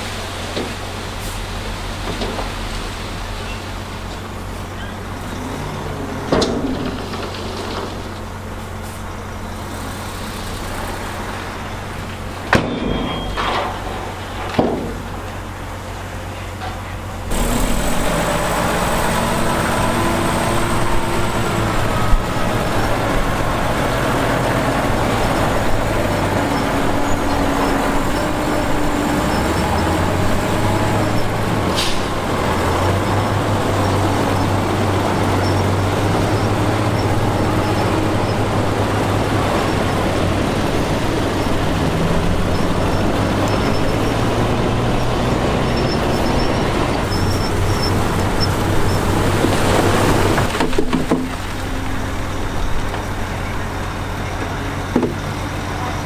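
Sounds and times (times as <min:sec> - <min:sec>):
diesel machinery engine humming: 0:00.0 - 0:56.0.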